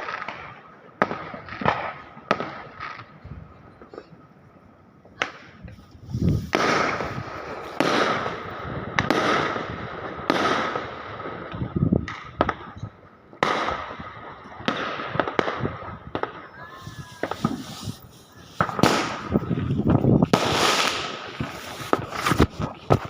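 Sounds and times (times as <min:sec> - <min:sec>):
fireworks bursting: 0:00.0 - 0:04.4, 0:05.0 - 0:23.0.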